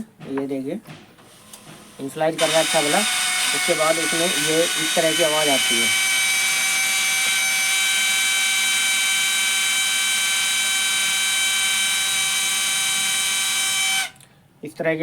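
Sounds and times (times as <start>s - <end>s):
printer whirring and whining: 1.2s - 14.2s.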